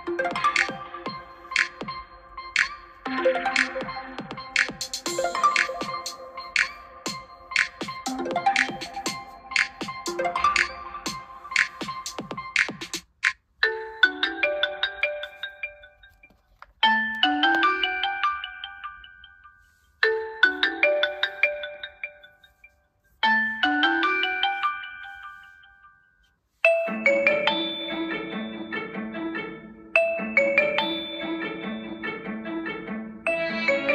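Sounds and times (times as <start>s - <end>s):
bell-like mallet ringtone melody: 0.0s - 13.0s, 13.6s - 33.9s
different ringtone: 0.0s - 32.6s, 33.2s - 33.9s.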